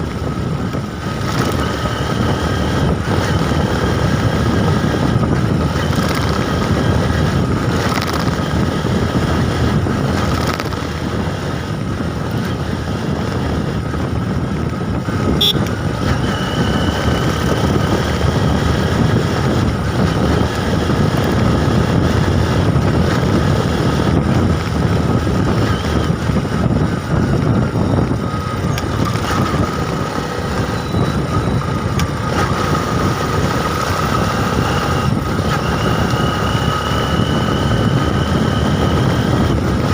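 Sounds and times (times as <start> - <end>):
bike road rumble: 0.0 - 39.9
wind on microphone: 0.0 - 39.9.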